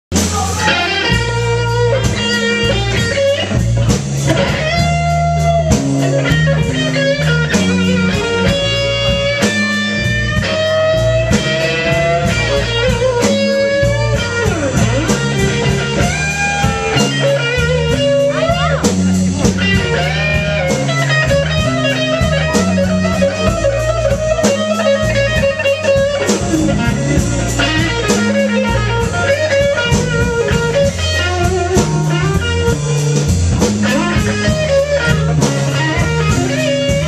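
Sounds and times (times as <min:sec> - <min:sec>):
bass guitar: 0:00.1 - 0:37.0
drums: 0:00.1 - 0:37.0
electric guitar lead: 0:00.1 - 0:37.0.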